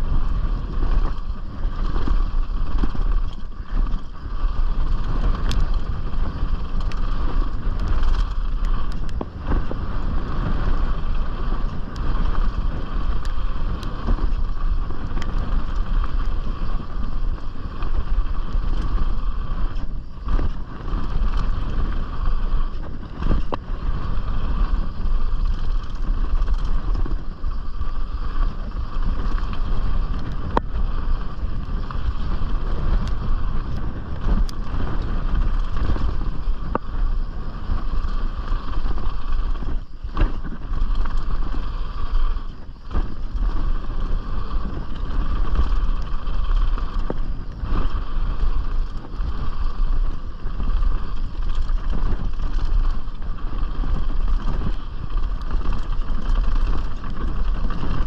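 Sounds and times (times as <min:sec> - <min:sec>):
bike knocks and rattles: 0:00.0 - 0:58.0
bike tyre noise: 0:00.0 - 0:58.0
wind over microphone: 0:00.0 - 0:58.0.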